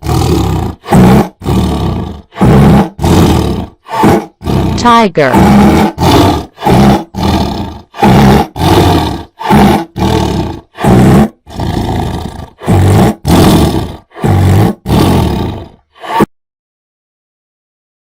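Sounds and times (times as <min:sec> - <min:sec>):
tiger roaring: 0:00.0 - 0:16.3.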